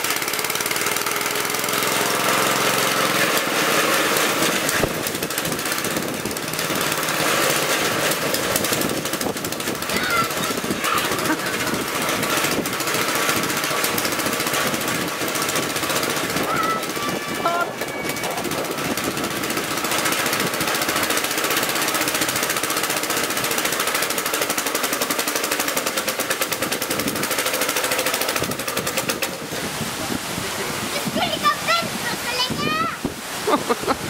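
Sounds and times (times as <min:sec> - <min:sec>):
small engine popping exhaust: 0:00.0 - 0:34.0.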